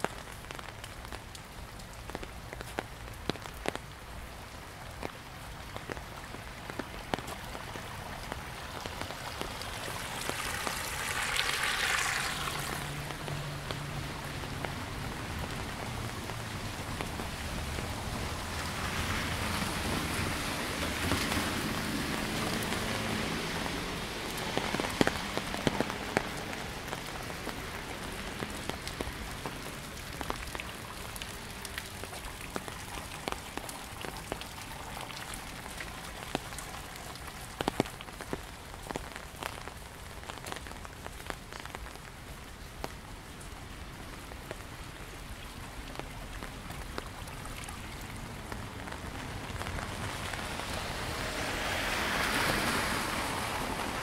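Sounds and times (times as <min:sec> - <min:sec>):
raindrops tapping on an umbrella: 0:00.0 - 0:54.0
stream rushing: 0:04.4 - 0:40.6, 0:43.6 - 0:54.0.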